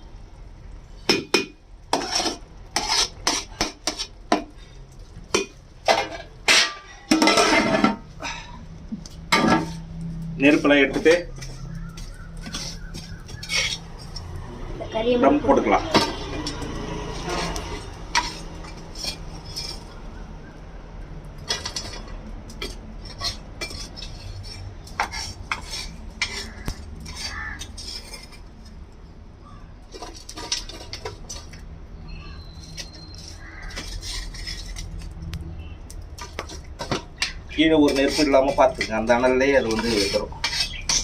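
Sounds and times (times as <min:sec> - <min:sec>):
metal pots and utensils clinking: 0:01.0 - 0:14.4, 0:15.2 - 0:20.2, 0:21.4 - 0:29.0, 0:29.8 - 0:41.0.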